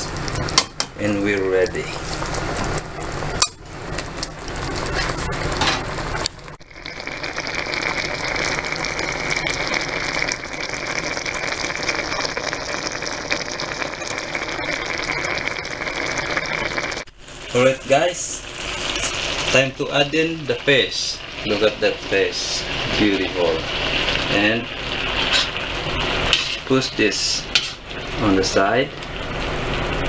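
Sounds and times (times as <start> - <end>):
liquid simmering in a pan: 0.0 - 30.0.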